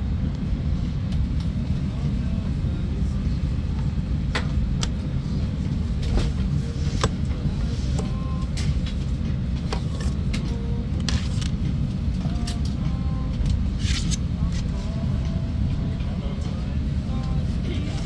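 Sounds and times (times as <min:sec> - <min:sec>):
cabin low rumble: 0:00.0 - 0:18.0.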